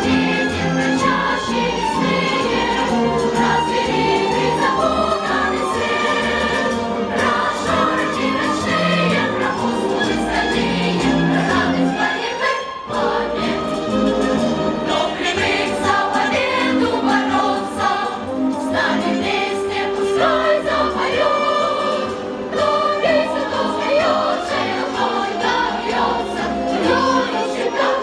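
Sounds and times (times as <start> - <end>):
choir singing with instruments: 0.0 - 28.0.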